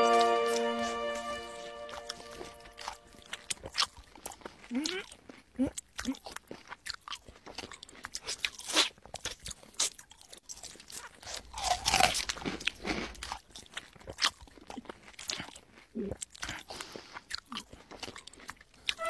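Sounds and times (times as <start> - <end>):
man chewing noisily: 0.0 - 19.0.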